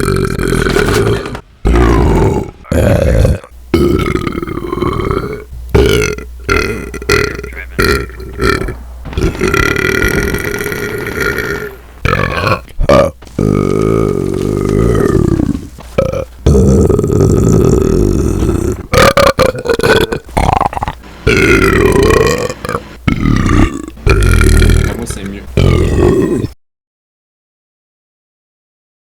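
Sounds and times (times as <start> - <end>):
person burping loudly: 0.0 - 26.6.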